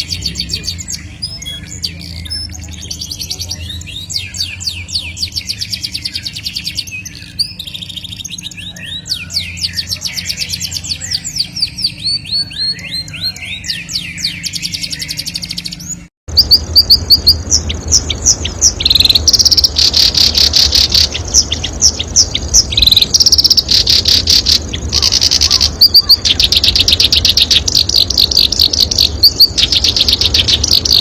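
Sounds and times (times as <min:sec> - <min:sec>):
low steady hum: 0:00.0 - 0:31.0
sharp bird chirps: 0:00.0 - 0:31.0
songbird rolling trills: 0:00.0 - 0:31.0.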